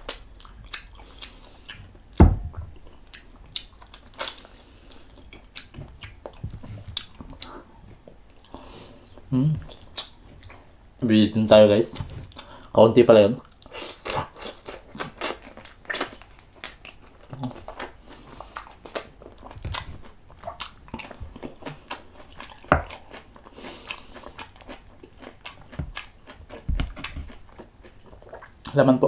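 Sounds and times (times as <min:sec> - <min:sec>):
person chewing meat: 0:00.0 - 0:10.8, 0:11.8 - 0:12.8, 0:13.4 - 0:28.8.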